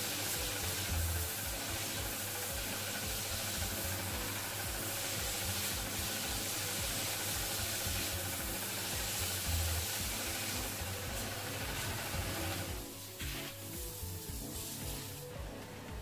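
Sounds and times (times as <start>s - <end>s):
hissing water jet from hose: 0.0s - 15.4s.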